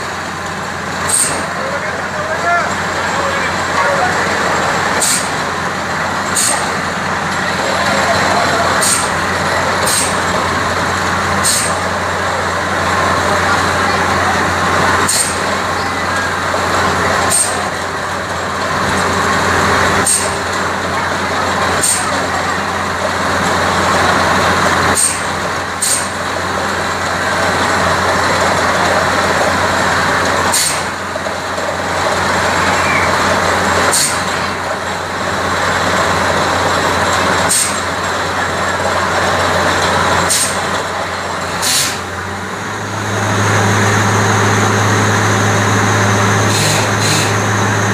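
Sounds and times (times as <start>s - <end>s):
drilling rig rushing noise: 0.0s - 47.9s.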